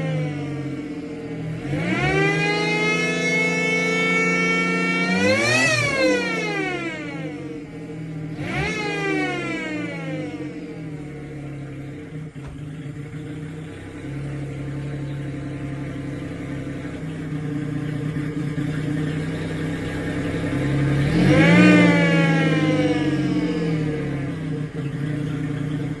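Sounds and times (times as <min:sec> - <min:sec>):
engine idling: 0:00.0 - 0:26.0
engine revving: 0:00.0 - 0:26.0.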